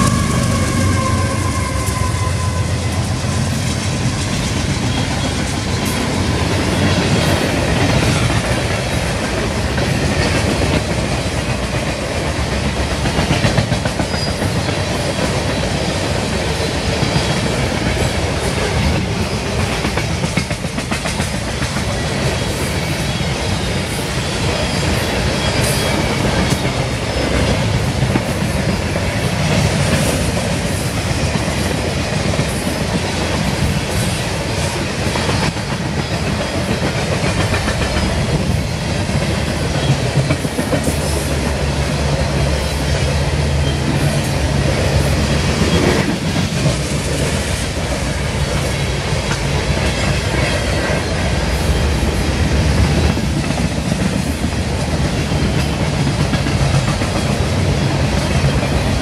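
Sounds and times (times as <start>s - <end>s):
freight train cars rolling: 0.0s - 59.0s.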